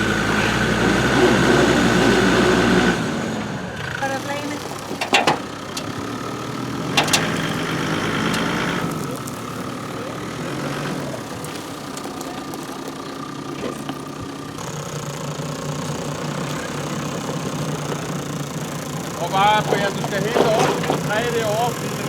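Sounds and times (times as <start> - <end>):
vehicle engine running low revs: 0.0 - 22.0.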